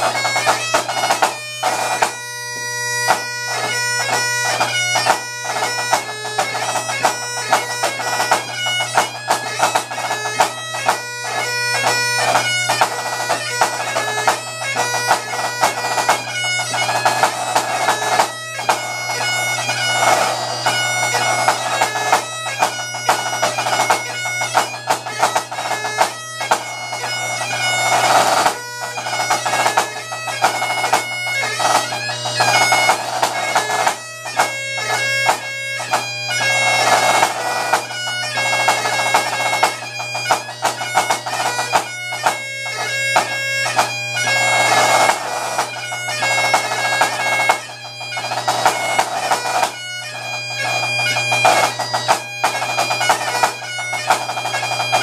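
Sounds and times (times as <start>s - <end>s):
bagpipes playing: 0.0s - 55.0s.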